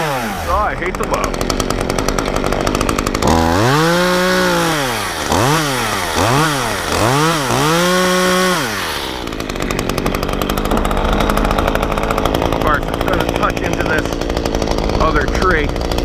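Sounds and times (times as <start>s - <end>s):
chainsaw revving: 0.0s - 16.0s.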